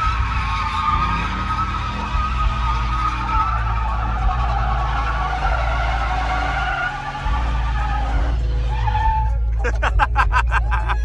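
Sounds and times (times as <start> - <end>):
tires squealing: 0.0 - 11.0.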